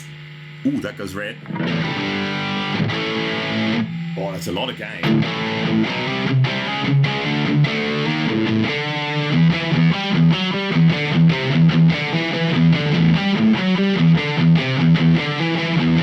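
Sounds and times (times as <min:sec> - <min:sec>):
heavily distorted electric guitar: 0:00.0 - 0:16.0.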